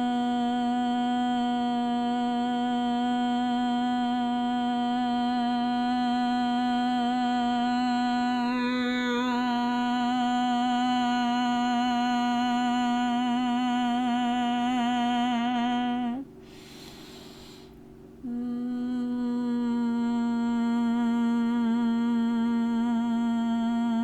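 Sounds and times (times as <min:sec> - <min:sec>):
person humming steady note: 0:00.0 - 0:24.0.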